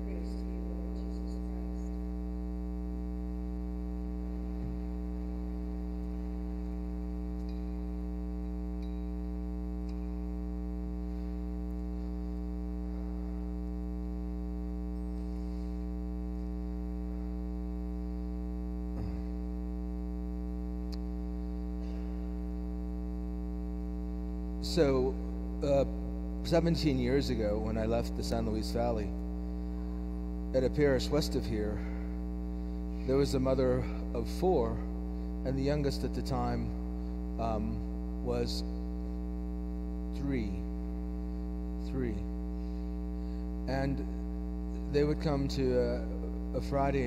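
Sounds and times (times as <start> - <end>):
electrical mains hum: 0.0 - 47.0.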